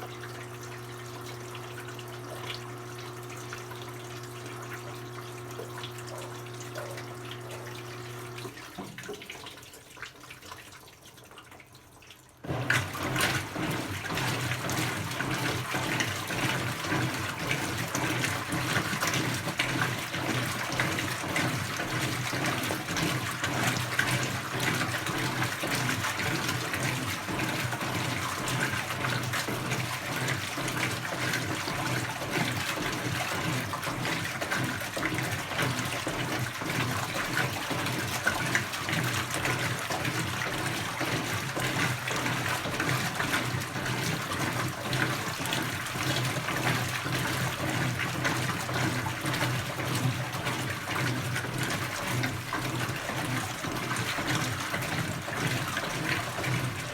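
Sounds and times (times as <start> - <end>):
washing machine low hum: 0.0 - 56.9
water sloshing in washing machine: 0.0 - 56.9.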